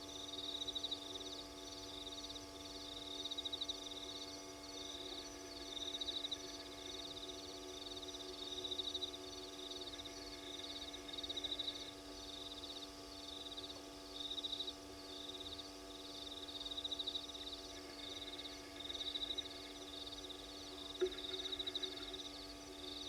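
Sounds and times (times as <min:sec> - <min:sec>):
insects trilling: 0:00.0 - 0:23.0
steady low hum: 0:00.0 - 0:23.0.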